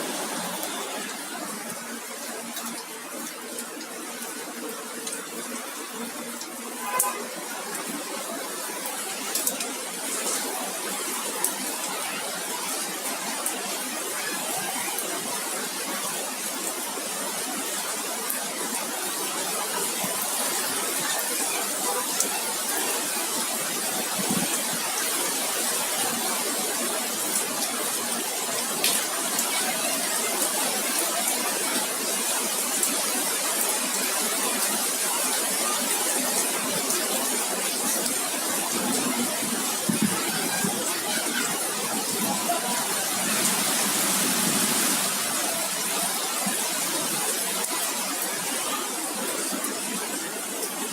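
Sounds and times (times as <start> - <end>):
heavy rain hissing: 0.0 - 50.9.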